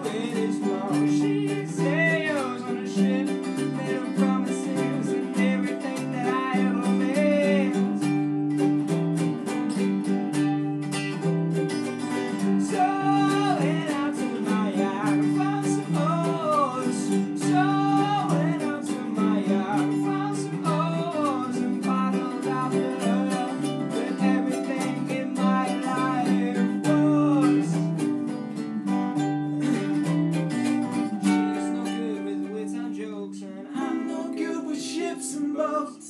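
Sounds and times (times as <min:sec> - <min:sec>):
person singing: 0:00.0 - 0:36.0
strummed acoustic string chords: 0:00.0 - 0:36.0.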